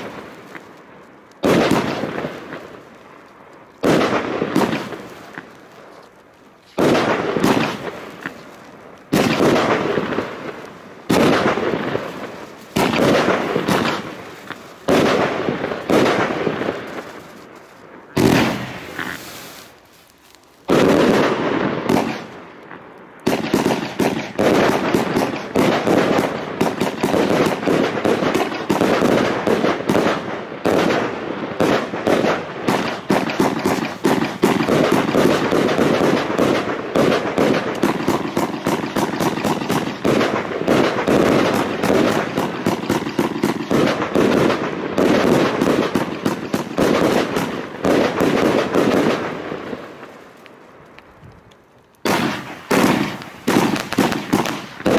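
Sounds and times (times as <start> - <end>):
fireworks barrage: 0.0 - 54.9.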